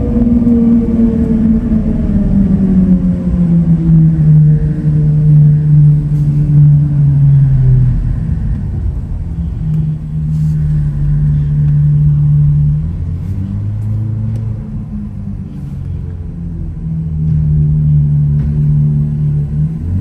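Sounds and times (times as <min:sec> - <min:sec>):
car engine deep drone: 0:00.0 - 0:20.0.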